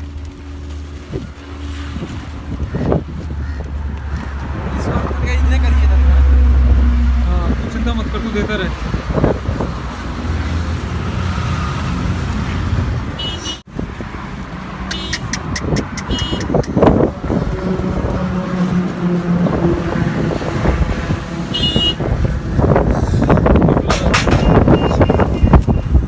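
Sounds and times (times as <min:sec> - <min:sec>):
highway traffic rumble: 0:00.0 - 0:26.0.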